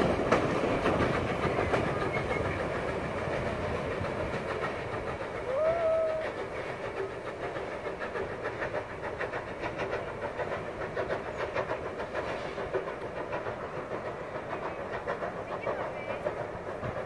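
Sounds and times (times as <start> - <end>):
train carriages rumbling: 0.0 - 17.0
wheels clicking over rail joints: 0.0 - 17.0.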